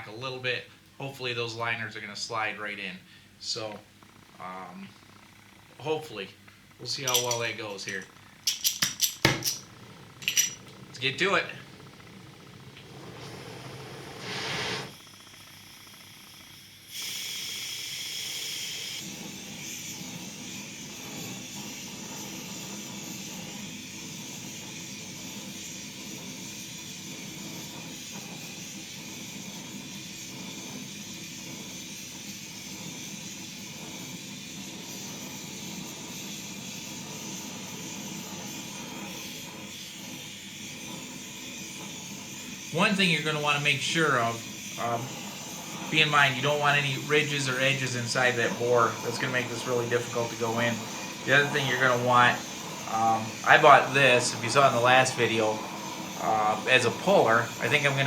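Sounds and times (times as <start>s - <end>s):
gas torch hissing: 0.0s - 58.0s.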